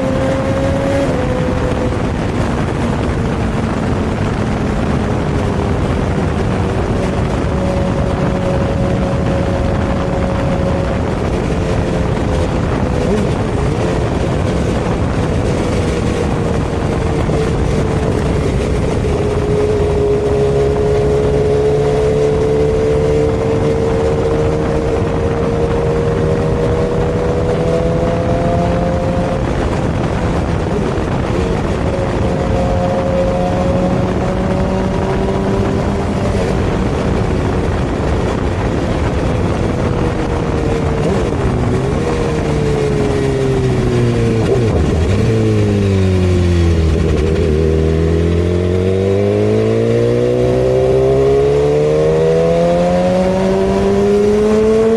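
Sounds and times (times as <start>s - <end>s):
motorbike engine running: 0.0s - 54.9s.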